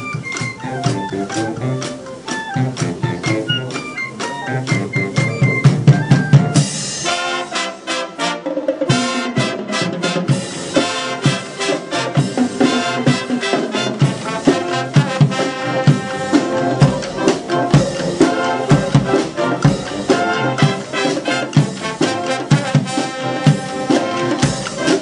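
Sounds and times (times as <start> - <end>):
brass marching band playing: 0.0 - 25.0
snare and bass drums: 0.0 - 25.0.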